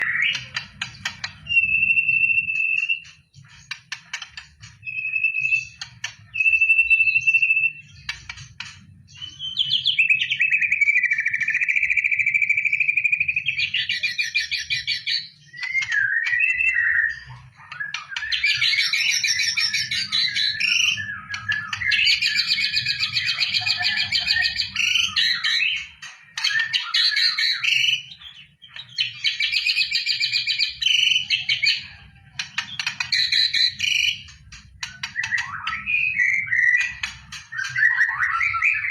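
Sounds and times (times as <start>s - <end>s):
songbird whistling and trilling: 0.0s - 38.9s.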